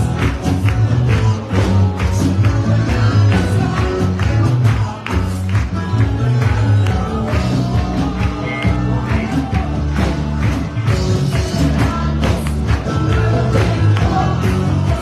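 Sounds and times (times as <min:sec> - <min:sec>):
live worship band music: 0:00.0 - 0:15.0
person singing: 0:00.0 - 0:15.0
steady drum beat: 0:00.0 - 0:15.0.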